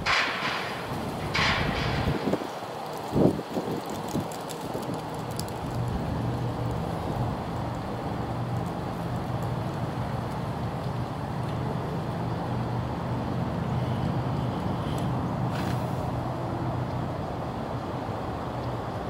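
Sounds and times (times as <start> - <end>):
road traffic noise: 0.0 - 19.0
vehicle engine rumble: 0.0 - 19.0.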